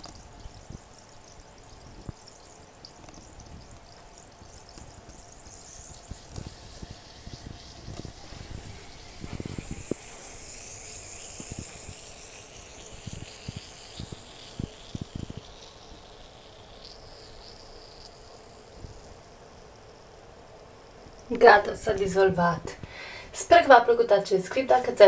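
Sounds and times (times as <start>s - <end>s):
bath bomb fizzing in water: 0.0s - 21.6s.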